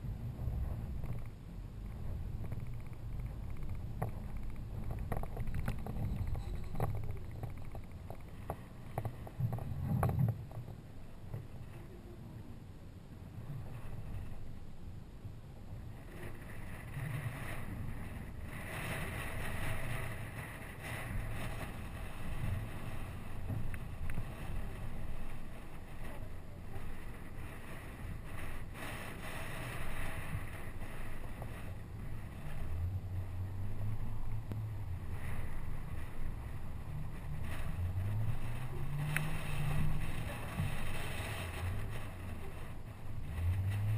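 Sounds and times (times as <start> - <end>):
low engine rumble: 0.0 - 43.9
wind buffeting microphone: 0.0 - 43.9.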